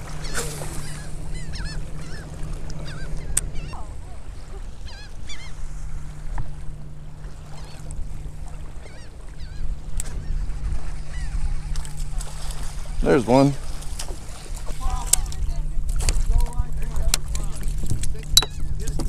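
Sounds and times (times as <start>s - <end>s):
seabirds calling: 0.0s - 19.0s.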